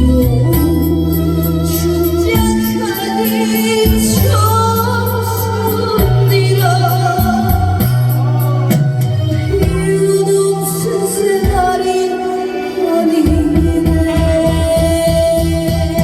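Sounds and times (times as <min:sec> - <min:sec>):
bass line: 0:00.0 - 0:12.5, 0:13.2 - 0:16.0
person singing with vibrato: 0:00.0 - 0:16.0
recorded backing track: 0:00.0 - 0:16.0.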